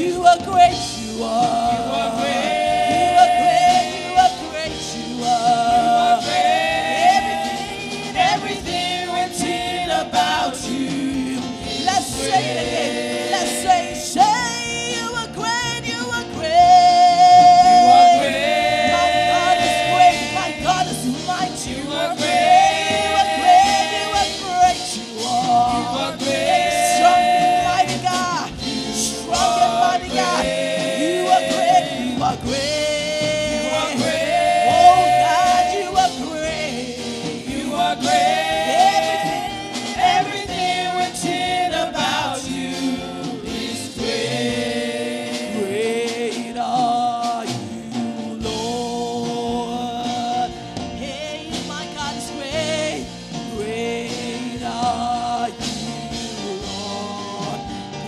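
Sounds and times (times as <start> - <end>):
band playing: 0.0 - 58.0
gospel singers: 0.0 - 58.0.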